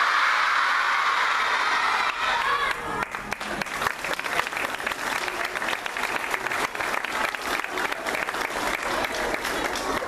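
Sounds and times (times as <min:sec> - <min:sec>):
audience applauding: 0:01.8 - 0:10.0.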